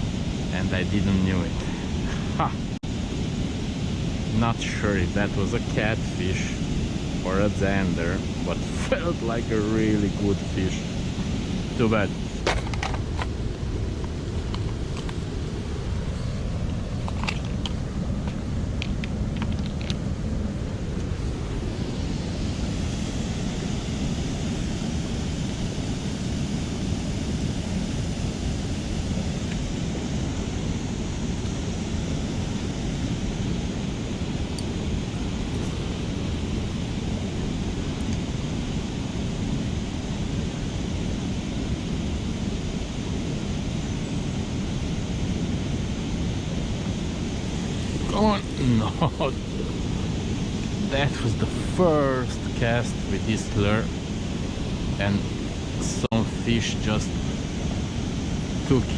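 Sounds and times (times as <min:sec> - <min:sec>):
steady rushing hiss: 0:00.0 - 0:58.9
wind rumbling on microphone: 0:00.0 - 0:58.9.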